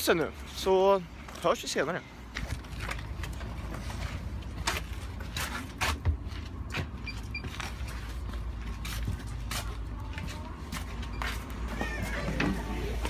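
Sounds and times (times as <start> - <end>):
footsteps: 2.3 - 13.0.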